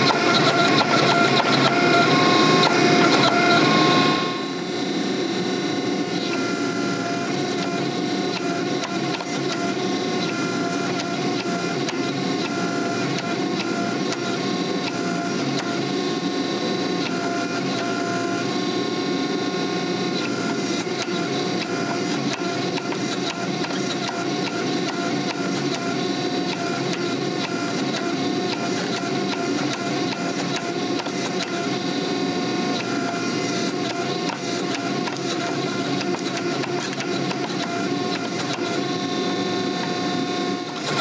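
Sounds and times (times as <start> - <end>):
hydraulic pump whining: 0.0 - 41.0.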